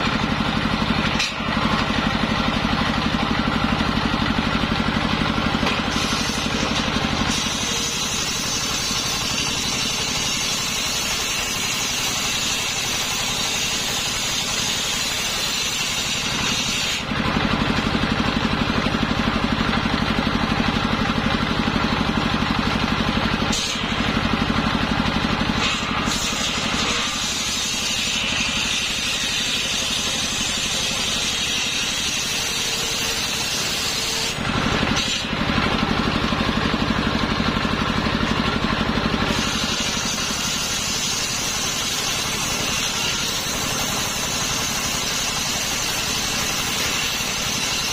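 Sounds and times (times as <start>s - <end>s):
circular saw running: 0.0s - 47.9s
saw blade whining in wood: 0.0s - 47.9s.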